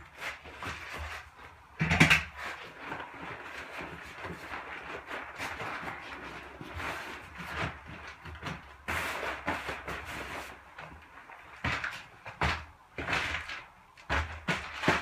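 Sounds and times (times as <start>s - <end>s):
hands scuffing plastic sheet: 0.0s - 15.0s
plastic sheet rustling: 0.0s - 15.0s.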